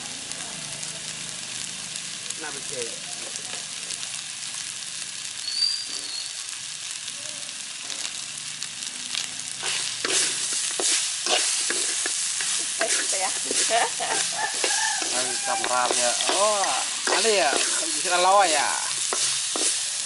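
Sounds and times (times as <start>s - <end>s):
meat sizzling: 0.0s - 20.0s
sharp crackles: 0.0s - 20.0s.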